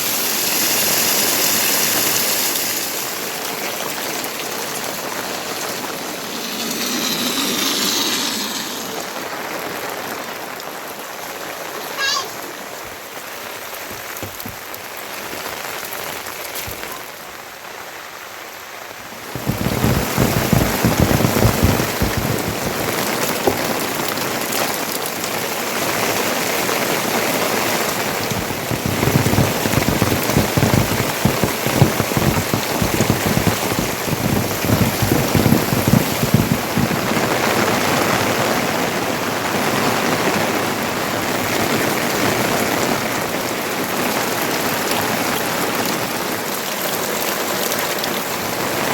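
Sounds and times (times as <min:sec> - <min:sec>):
heavy rain patter: 0:00.0 - 0:48.9.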